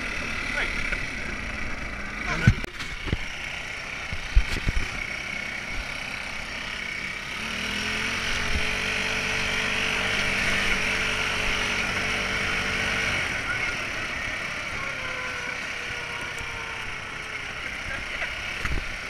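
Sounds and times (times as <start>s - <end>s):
buggy engine running: 0.0s - 19.0s.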